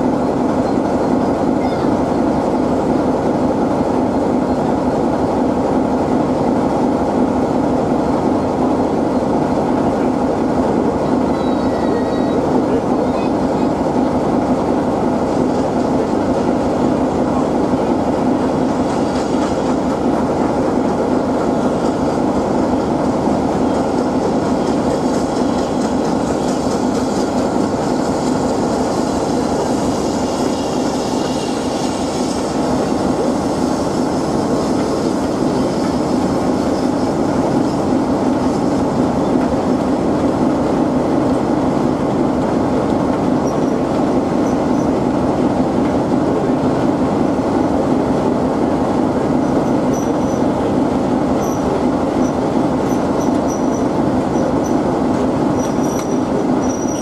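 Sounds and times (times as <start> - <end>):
steam locomotive passing: 0.0 - 57.0.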